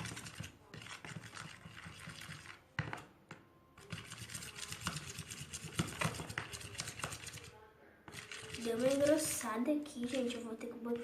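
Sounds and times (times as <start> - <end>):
utensil stirring slime: 0.0 - 3.1, 3.8 - 11.0.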